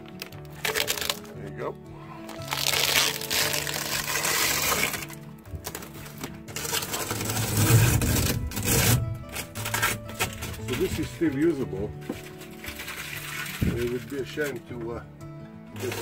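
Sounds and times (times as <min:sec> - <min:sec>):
plastic rustling: 0:00.0 - 0:01.6, 0:02.2 - 0:14.7, 0:15.8 - 0:16.0.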